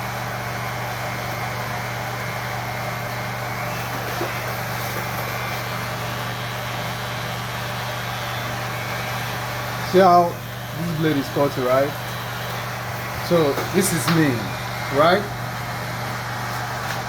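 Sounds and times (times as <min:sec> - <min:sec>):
electric hair clipper cutting hair: 0:00.0 - 0:17.0.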